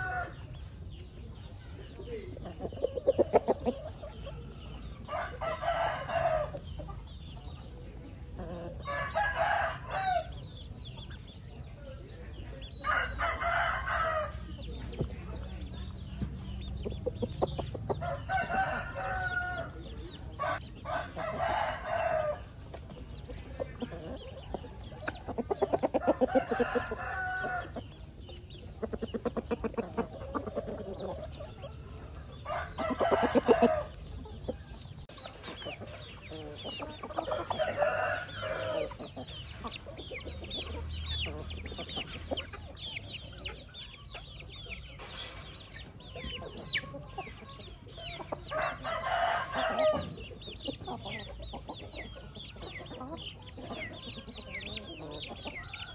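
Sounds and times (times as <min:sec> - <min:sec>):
roosters crowing: 0:00.0 - 0:00.8, 0:02.6 - 0:07.2, 0:08.3 - 0:10.8, 0:12.7 - 0:14.8, 0:17.5 - 0:22.8, 0:24.0 - 0:28.3, 0:29.1 - 0:55.9
chickens clucking and cackling: 0:00.0 - 0:55.9.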